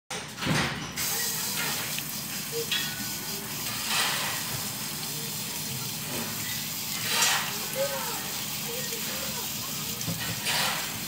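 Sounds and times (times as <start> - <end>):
hose nozzle spraying water: 1.0 - 11.0.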